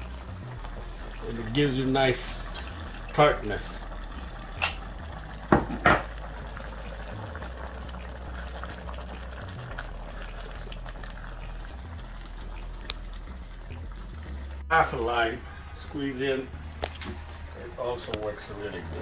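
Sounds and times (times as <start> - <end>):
food simmering and bubbling: 0.0 - 19.0.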